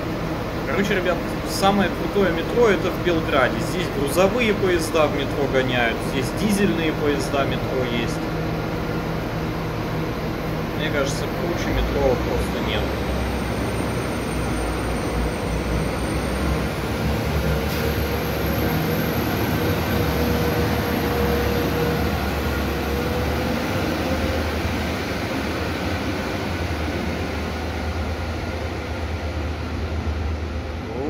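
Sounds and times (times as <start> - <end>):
train engine and wheels rumbling: 0.0 - 31.0.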